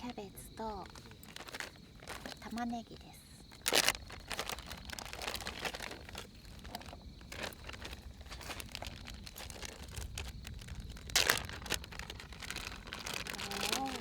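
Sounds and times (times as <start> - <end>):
plastic packaging crinkling: 0.0 - 2.7, 3.5 - 14.0.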